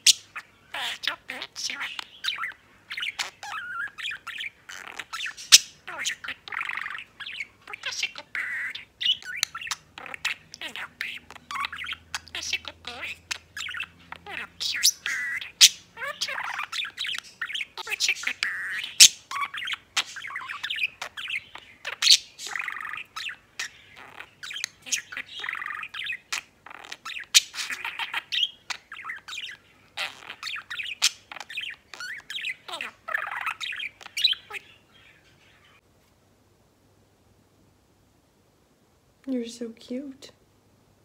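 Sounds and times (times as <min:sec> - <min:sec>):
budgerigar chattering and warbling: 0:00.0 - 0:35.2.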